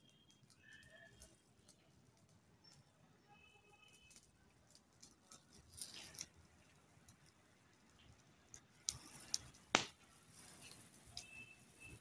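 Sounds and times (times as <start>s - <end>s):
small fire crackling and popping: 0.0s - 12.0s.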